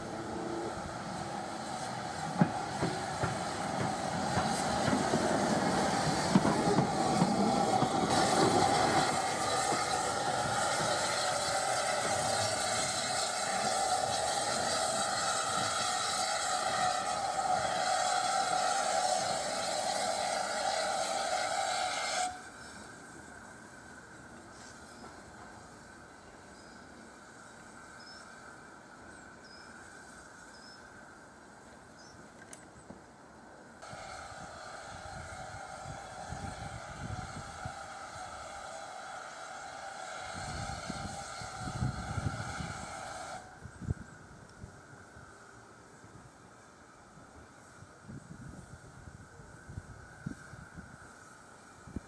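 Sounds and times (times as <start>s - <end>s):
steam locomotive hiss and rumble: 0.0s - 52.0s.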